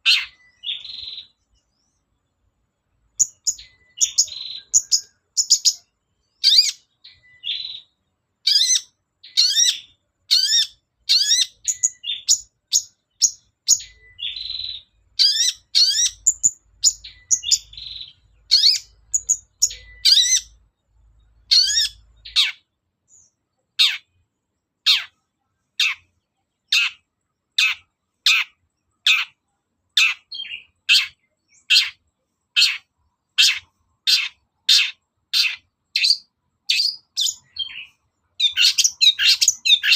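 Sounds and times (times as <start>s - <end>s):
harsh rasping bird calls: 0.0s - 1.7s, 3.2s - 24.2s, 24.8s - 39.9s.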